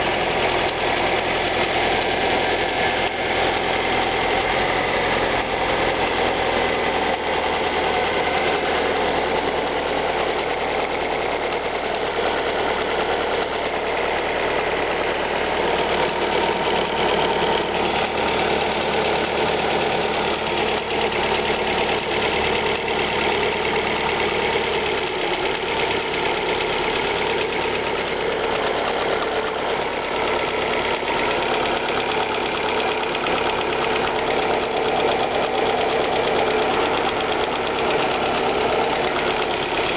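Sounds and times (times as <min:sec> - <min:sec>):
car engine idling: 0:00.0 - 0:39.9
fast continuous ticking: 0:00.0 - 0:39.9.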